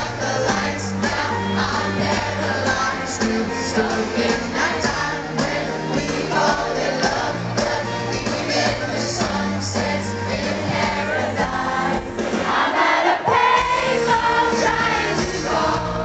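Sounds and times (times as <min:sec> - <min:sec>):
live pop band playing: 0:00.0 - 0:16.0.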